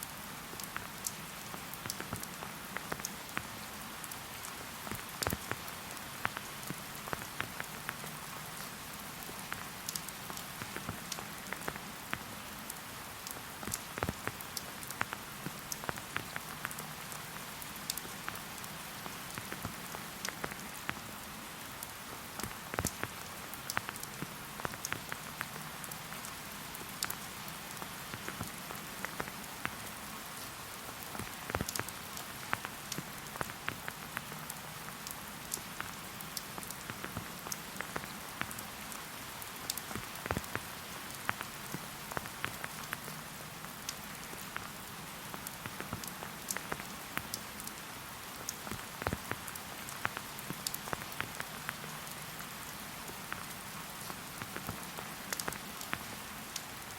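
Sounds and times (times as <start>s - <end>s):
rain falling: 0.0s - 56.9s
raindrops tapping close by: 0.4s - 21.1s, 21.8s - 56.9s.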